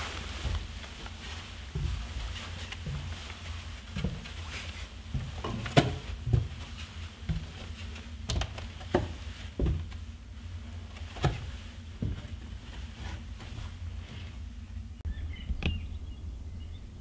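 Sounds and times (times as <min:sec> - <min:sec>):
footsteps on wooden boards: 0:00.0 - 0:14.4.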